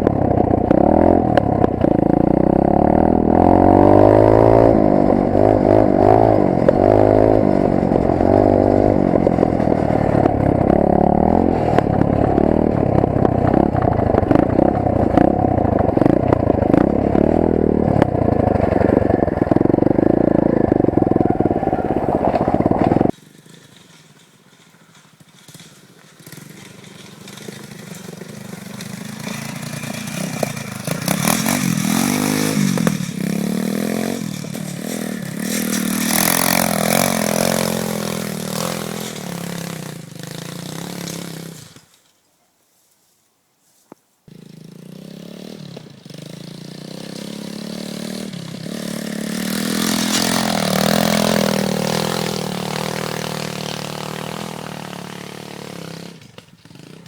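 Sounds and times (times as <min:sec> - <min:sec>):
pit bike engine revving: 0:00.0 - 0:23.2, 0:26.2 - 0:41.9, 0:44.3 - 0:57.0.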